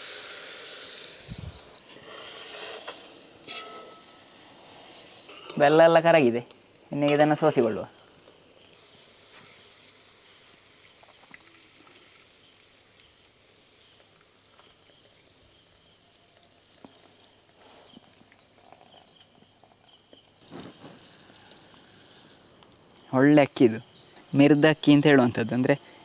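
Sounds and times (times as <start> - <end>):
crickets chirping in trills: 0.0 - 26.0.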